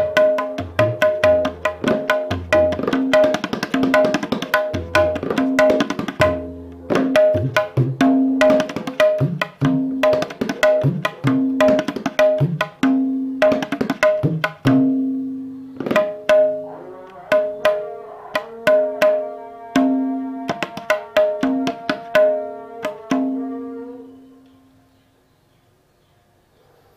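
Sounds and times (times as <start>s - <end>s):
tabla drum strokes: 0.0s - 23.6s.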